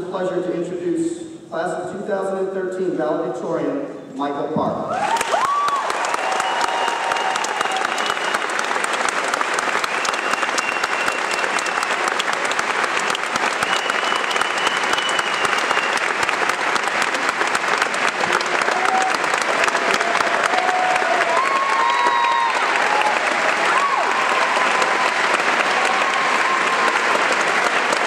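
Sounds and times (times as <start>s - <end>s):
audience applauding: 4.9s - 28.0s.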